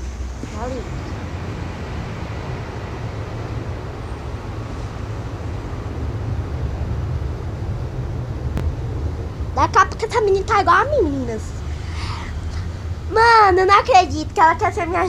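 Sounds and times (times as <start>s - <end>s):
faint hiss: 0.0s - 15.0s
low rumbling background noise: 0.0s - 15.0s.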